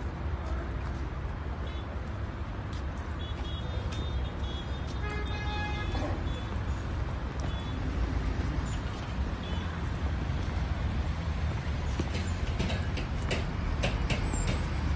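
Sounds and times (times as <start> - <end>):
low rumble of road traffic: 0.0 - 14.9.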